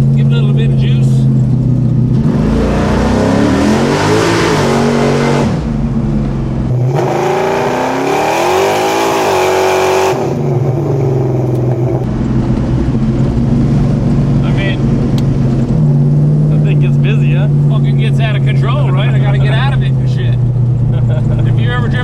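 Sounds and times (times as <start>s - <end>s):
engine accelerating hard: 0.0s - 22.0s.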